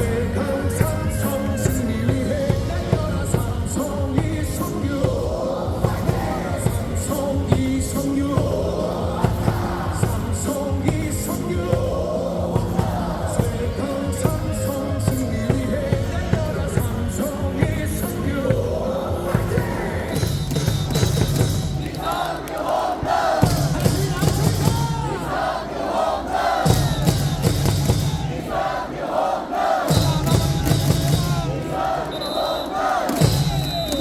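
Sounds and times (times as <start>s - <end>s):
cheer song over loudspeakers: 0.0s - 34.0s.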